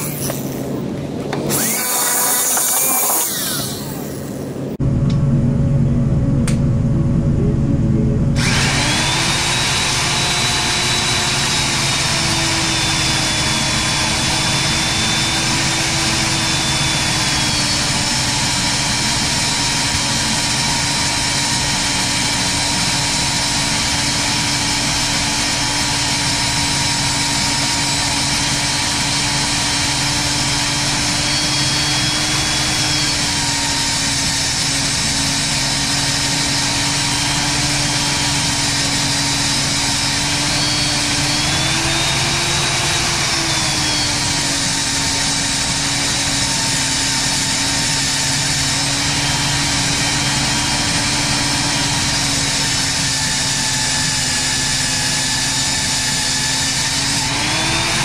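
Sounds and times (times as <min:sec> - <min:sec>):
drill press boring through steel: 0:00.0 - 0:00.7, 0:01.4 - 0:04.5, 0:08.4 - 0:58.0.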